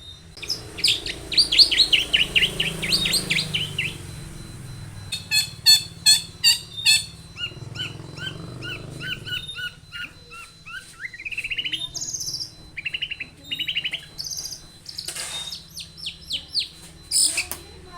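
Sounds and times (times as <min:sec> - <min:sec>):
bird singing chattering song: 0:00.0 - 0:17.9.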